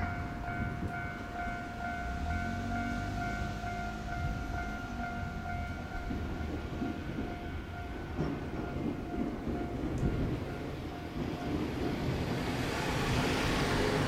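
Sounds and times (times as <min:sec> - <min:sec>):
electric train rumbling: 0:00.0 - 0:14.0
level crossing warning bell: 0:00.0 - 0:14.0.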